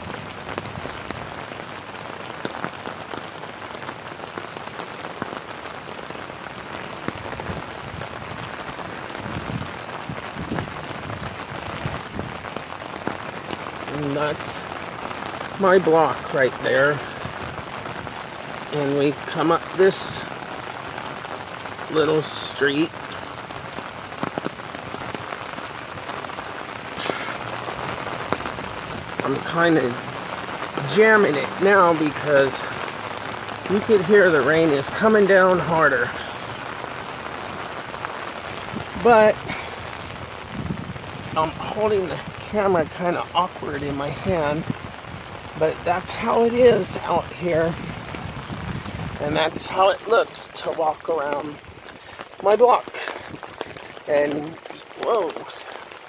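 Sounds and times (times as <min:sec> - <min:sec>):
raindrops ticking close: 0:00.0 - 0:56.0
steady rain falling: 0:00.0 - 0:56.0.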